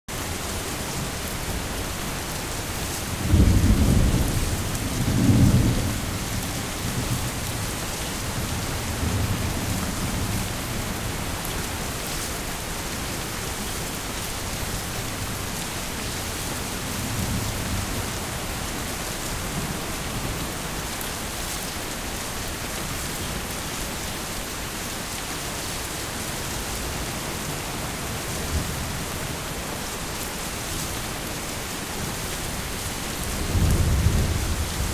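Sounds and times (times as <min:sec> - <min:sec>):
heavy rain: 0:00.1 - 0:34.9
thunder rumbling: 0:00.7 - 0:34.9.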